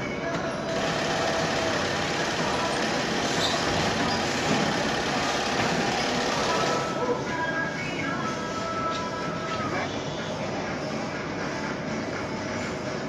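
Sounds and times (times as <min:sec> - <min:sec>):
factory machinery hum: 0:00.0 - 0:13.0.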